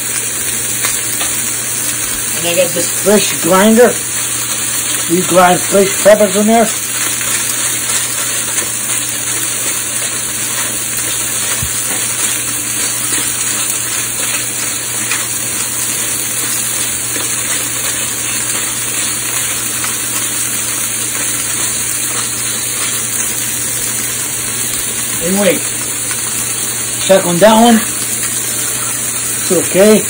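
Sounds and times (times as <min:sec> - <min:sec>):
pepper grinder crunching: 0:00.0 - 0:30.0
steaks sizzling in a pan: 0:00.0 - 0:30.0.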